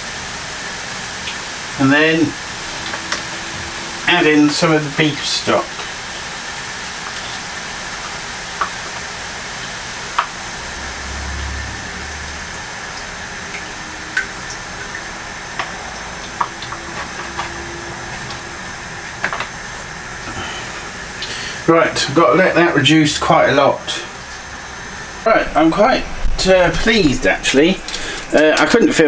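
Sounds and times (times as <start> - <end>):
sauce sizzling in a pan: 0.0 - 26.0.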